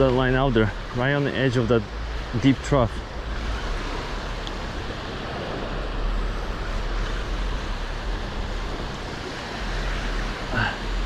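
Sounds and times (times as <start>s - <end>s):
surf washing onto beach: 0.0s - 11.0s
wind rumbling on microphone: 0.0s - 11.0s.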